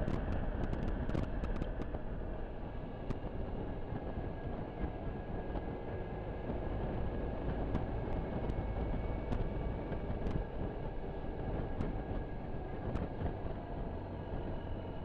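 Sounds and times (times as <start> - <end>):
low rumble on microphone: 0.0 - 15.0.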